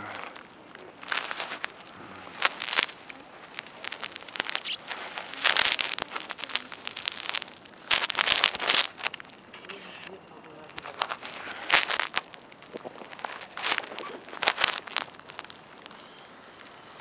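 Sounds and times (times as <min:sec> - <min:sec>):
crackling and rustling: 0:00.0 - 0:17.0.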